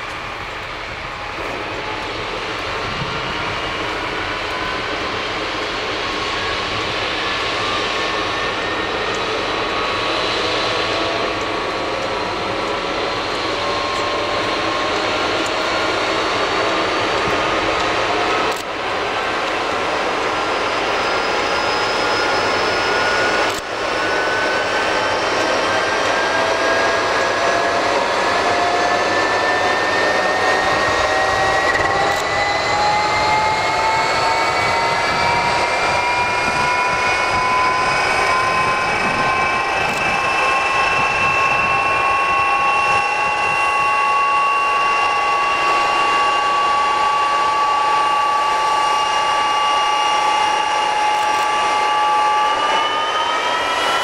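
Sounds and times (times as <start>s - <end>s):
jet engine exhaust blast: 0.0s - 54.0s
jet engine whine: 0.0s - 54.0s.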